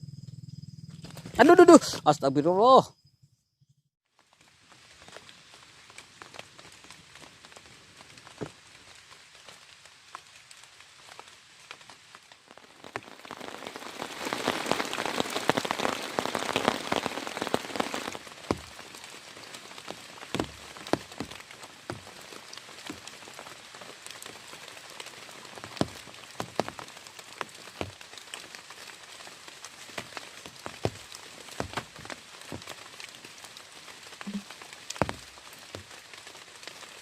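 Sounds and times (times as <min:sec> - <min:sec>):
rain pattering: 0:04.1 - 0:37.0.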